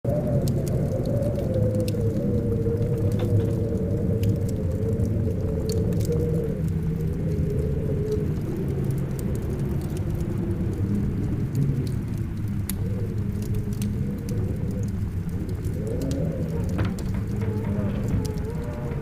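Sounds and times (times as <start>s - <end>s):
howling storm wind: 0.0s - 19.0s
wood fire crackling: 0.0s - 19.0s.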